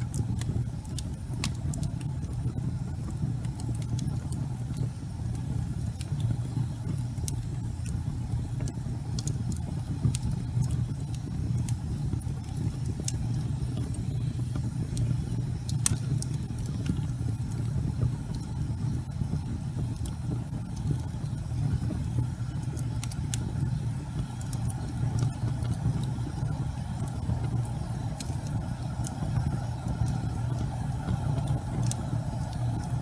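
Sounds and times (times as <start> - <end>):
fire crackles and pops: 0.0 - 33.0
fire rumbling: 0.0 - 33.0.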